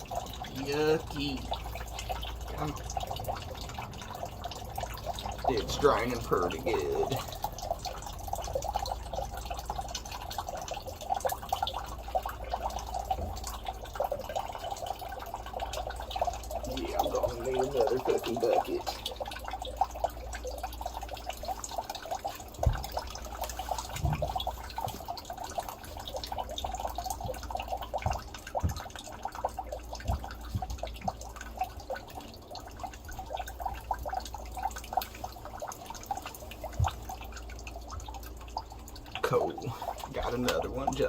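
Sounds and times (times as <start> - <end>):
water trickling into a bucket: 0.0 - 41.0.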